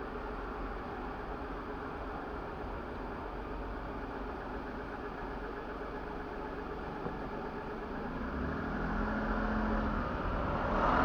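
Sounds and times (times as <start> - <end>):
car engine: 0.0 - 11.0
road noise inside car: 0.0 - 11.0.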